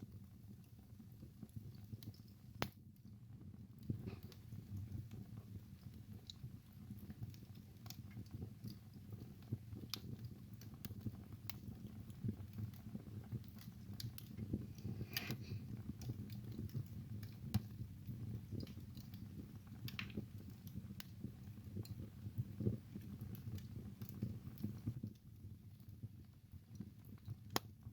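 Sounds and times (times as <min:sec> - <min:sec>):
low rumble of flame: 0:00.0 - 0:27.9
wood crackling and popping: 0:00.0 - 0:27.9.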